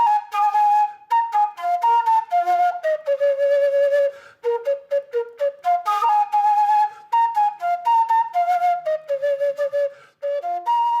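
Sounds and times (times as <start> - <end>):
solo flute melody: 0.0 - 11.0.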